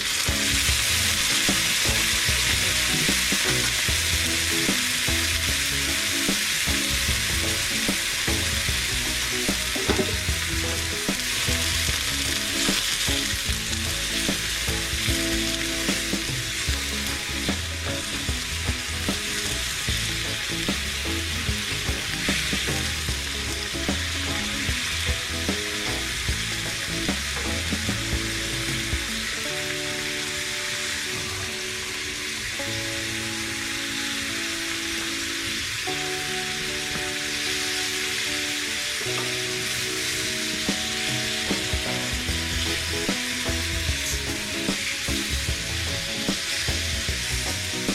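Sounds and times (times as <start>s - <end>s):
background music: 0.0s - 47.9s
food sizzling in hot oil: 0.0s - 47.9s.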